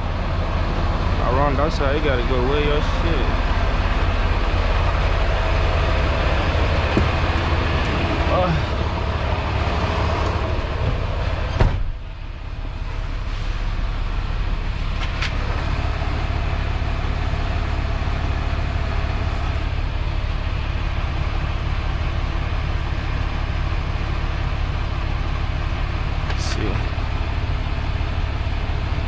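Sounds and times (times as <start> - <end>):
diesel engine low rumble: 0.0 - 29.0.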